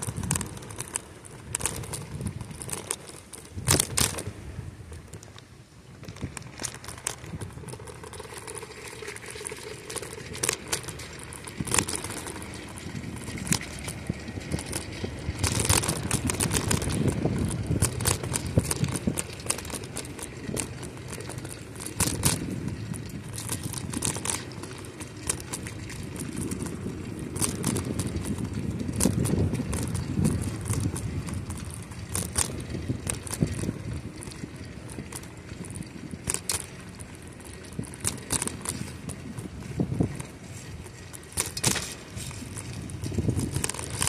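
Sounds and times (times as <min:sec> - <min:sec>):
bicycle clicks and rattles: 0:00.0 - 0:44.0
bicycle tyres rumbling: 0:00.0 - 0:44.0.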